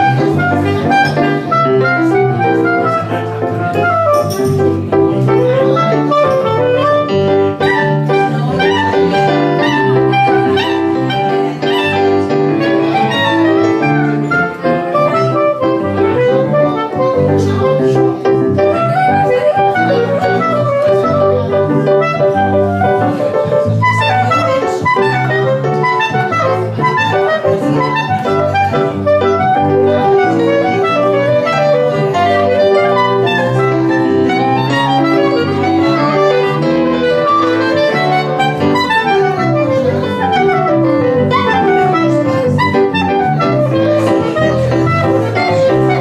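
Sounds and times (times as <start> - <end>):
clarinet playing jazz melody: 0.0 - 46.0
piano chords: 0.0 - 46.0.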